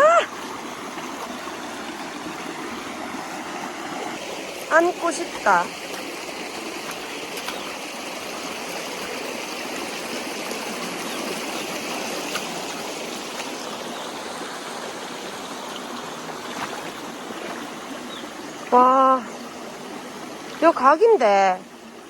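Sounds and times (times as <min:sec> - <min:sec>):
stream running: 0:00.0 - 0:22.0.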